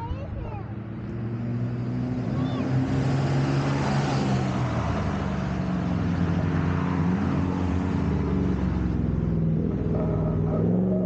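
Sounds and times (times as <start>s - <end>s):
truck engine straight-piped exhaust: 0.0s - 11.0s.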